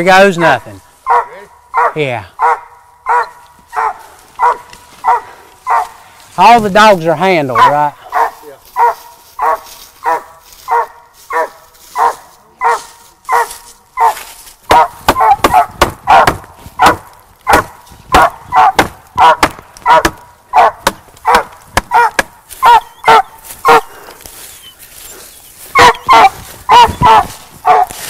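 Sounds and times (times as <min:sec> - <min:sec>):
hounds barking: 0:00.2 - 0:06.0, 0:07.5 - 0:28.0.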